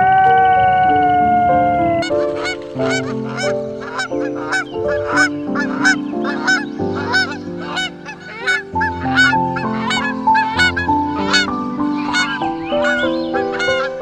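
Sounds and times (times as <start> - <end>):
background music: 0.0 - 14.0
geese honking: 0.0 - 14.0.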